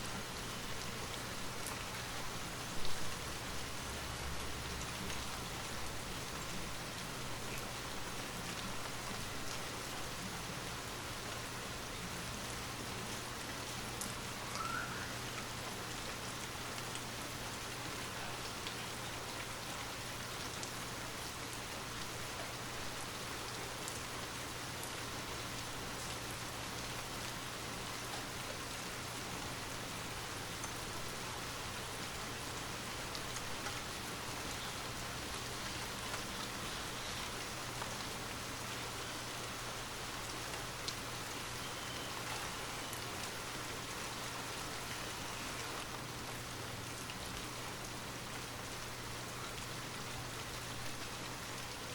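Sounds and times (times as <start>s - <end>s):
steady rainfall: 0.0s - 51.9s.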